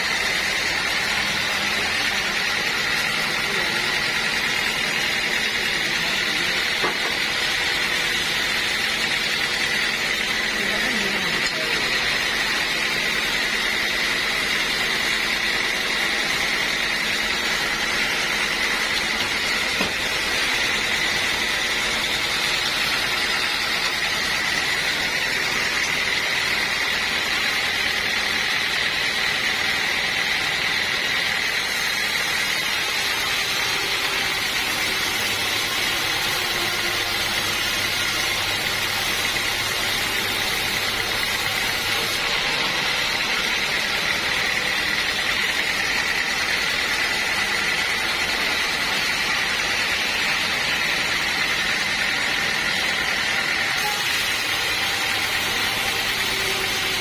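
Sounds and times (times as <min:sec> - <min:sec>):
high mechanical whine: 0:00.0 - 0:57.0
sawmill machinery drone: 0:00.0 - 0:57.0.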